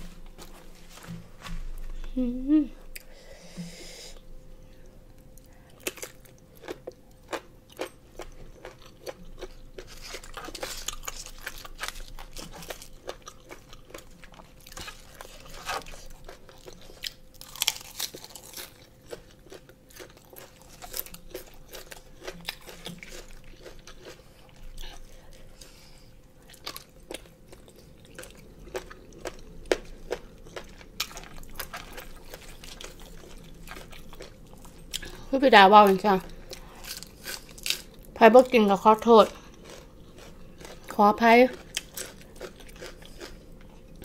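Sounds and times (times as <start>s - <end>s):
close-up chewing and crunching: 4.1s - 44.0s.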